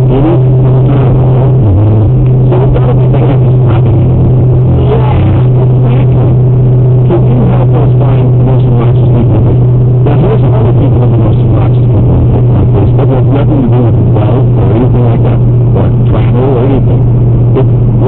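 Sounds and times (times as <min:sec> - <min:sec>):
car engine and road noise: 0:00.0 - 0:18.0
muffled radio talk: 0:00.0 - 0:18.0.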